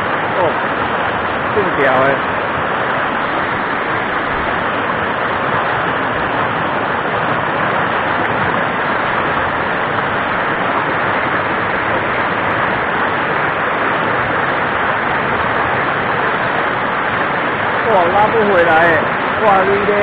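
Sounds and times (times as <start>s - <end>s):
whitewater rushing over rocks: 0.0s - 20.0s.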